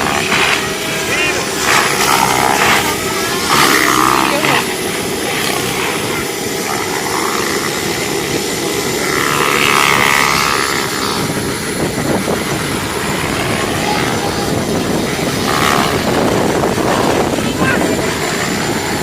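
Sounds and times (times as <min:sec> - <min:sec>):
rc helicopter flying: 0:00.0 - 0:19.0.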